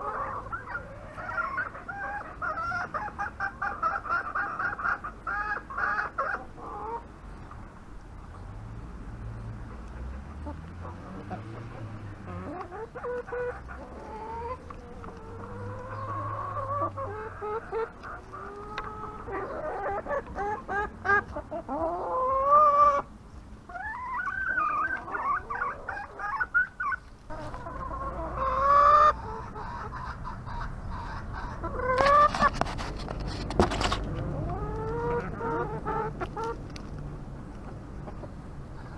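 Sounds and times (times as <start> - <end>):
chickens clucking and calling: 0.0 - 38.9.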